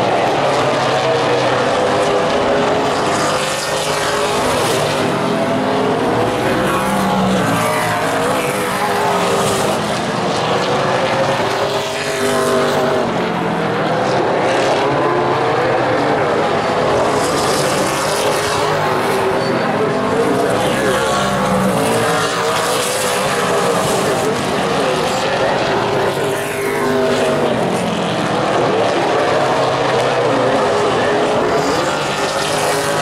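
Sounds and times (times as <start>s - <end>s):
race car engines: 0.0s - 33.0s.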